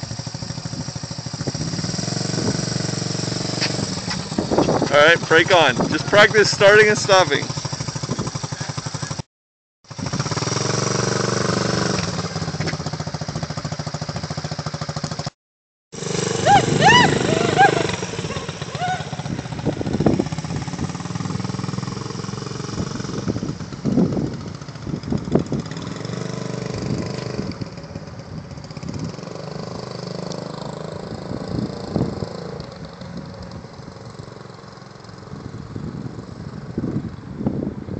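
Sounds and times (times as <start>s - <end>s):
motorcycle engine at low revs: 0.0s - 37.9s.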